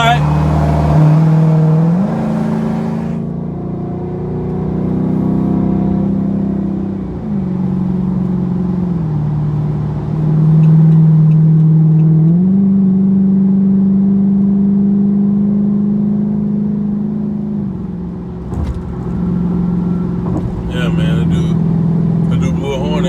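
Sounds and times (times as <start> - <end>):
car engine running at held revs: 0.0 - 14.6, 16.9 - 23.0.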